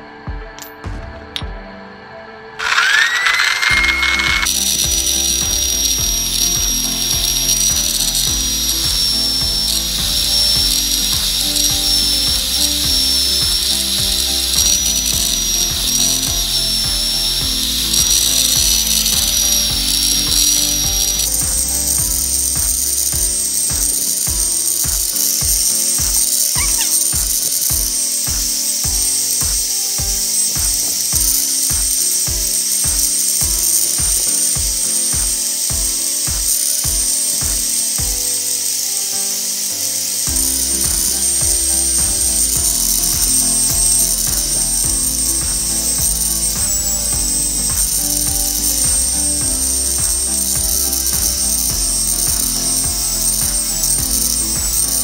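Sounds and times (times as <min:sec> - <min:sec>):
background music with steady beat: 0:00.0 - 0:55.0
electric drill motor whine: 0:02.6 - 0:55.0.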